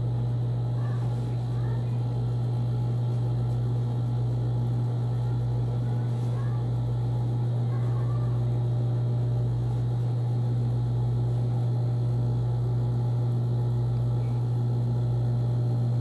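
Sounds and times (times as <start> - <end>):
sewing machine motor hum: 0.0 - 16.0.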